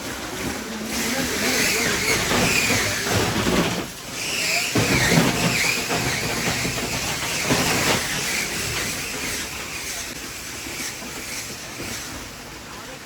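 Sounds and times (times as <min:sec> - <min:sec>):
ice-crushing machine running: 0:00.0 - 0:13.0.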